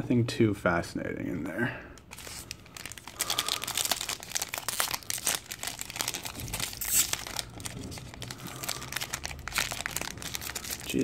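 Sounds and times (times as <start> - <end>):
foil wrapper crinkling and tearing: 2.0 - 11.0.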